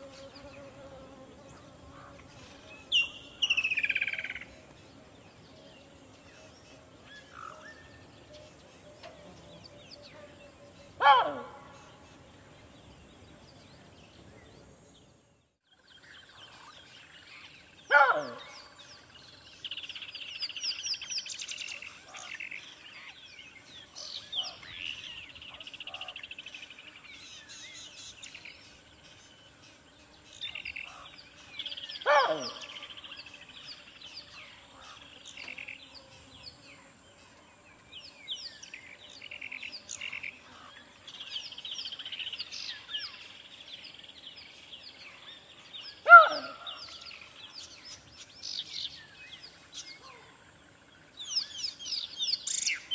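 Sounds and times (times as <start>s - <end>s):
birds chirping and twittering: 0.0s - 52.9s.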